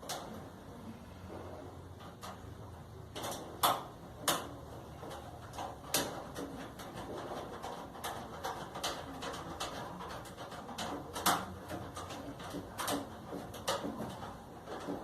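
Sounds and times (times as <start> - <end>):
clicks and knocks of parts and tools: 0.0 - 0.4, 1.9 - 15.0.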